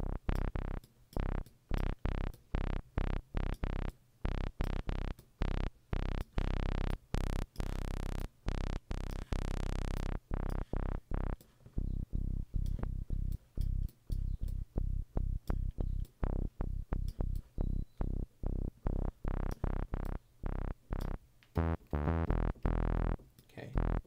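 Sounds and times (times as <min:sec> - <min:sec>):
synthesizer bass notes: 0:00.0 - 0:23.2, 0:23.8 - 0:24.0.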